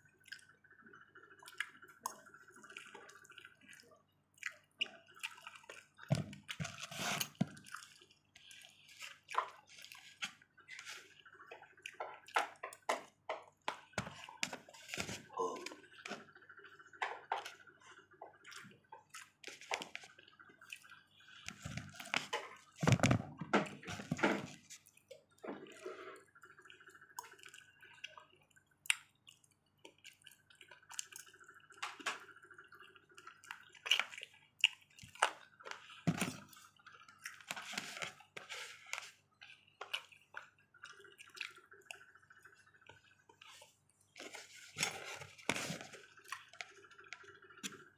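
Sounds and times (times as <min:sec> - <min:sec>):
wet chewing: 0:01.2 - 0:23.1, 0:23.7 - 0:47.9.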